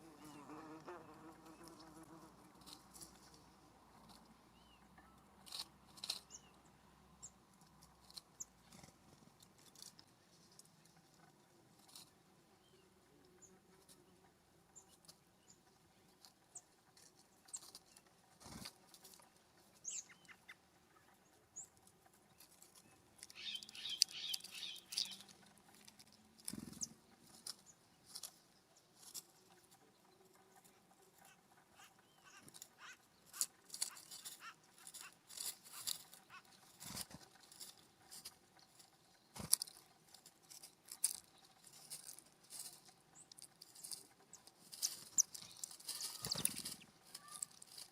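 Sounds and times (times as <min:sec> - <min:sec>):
faint birdsong: 0:00.0 - 0:47.9.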